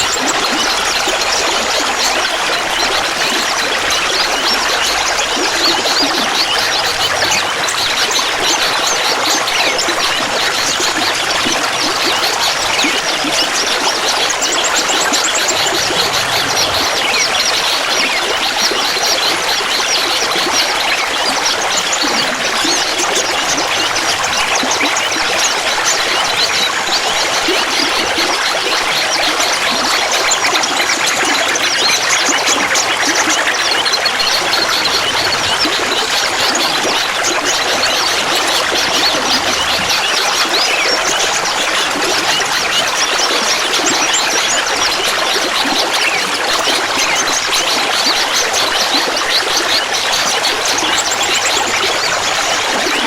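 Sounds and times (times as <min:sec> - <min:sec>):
water trickling and babbling: 0:00.0 - 0:53.0.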